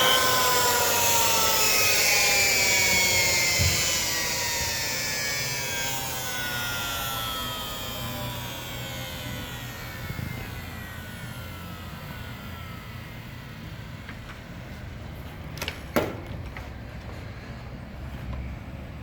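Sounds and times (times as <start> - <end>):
low hum: 0.0 - 15.4
cutter motor winding down: 0.0 - 15.6.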